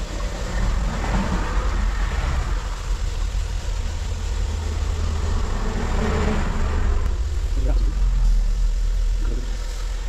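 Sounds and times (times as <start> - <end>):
chicken sizzling in hot oil: 0.0 - 10.0
steady low rumble: 0.0 - 10.0.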